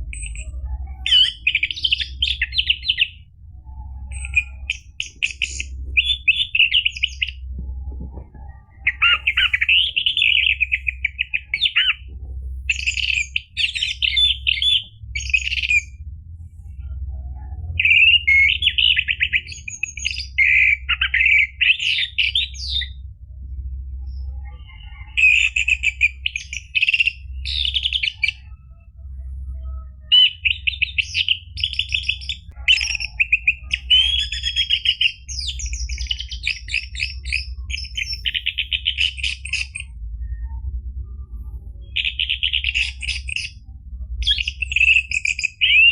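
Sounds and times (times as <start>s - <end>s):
thrush singing trills: 0.0s - 23.0s, 23.6s - 45.9s
low hum: 0.0s - 45.9s.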